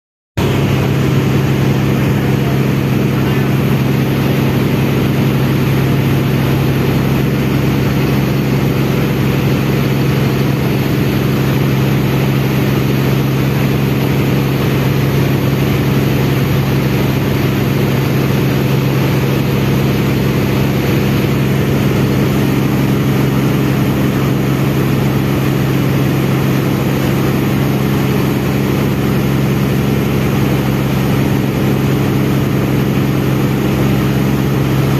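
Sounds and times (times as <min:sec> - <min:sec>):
ferry engine humming: 0:00.4 - 0:34.9
water churning along hull: 0:00.4 - 0:34.9.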